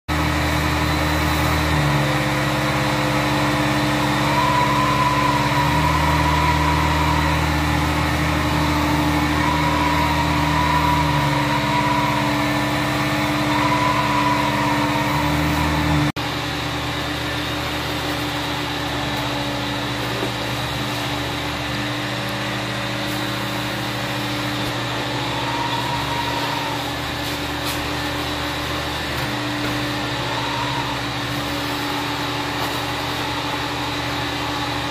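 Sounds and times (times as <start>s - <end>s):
carpet cleaner running: 0.1s - 34.9s
machine hum: 0.1s - 34.9s.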